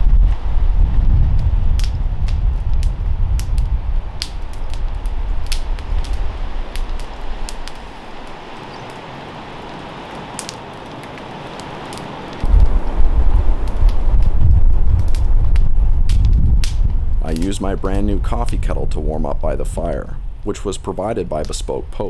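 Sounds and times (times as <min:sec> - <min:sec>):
campfire crackling and popping: 0:00.0 - 0:22.0
wind rumbling on microphone: 0:00.0 - 0:22.0.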